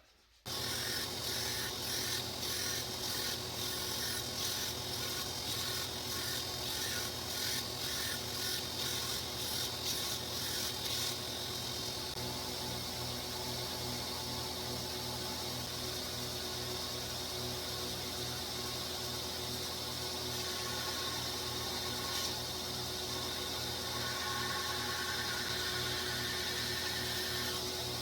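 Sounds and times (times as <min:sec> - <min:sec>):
grinder hissing on steel: 0:00.5 - 0:12.2, 0:17.0 - 0:28.0
motor hum: 0:00.5 - 0:28.0.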